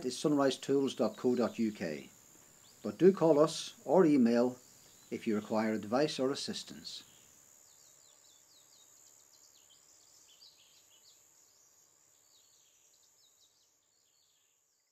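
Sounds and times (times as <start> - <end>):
small birds chirping: 0.1 - 14.9.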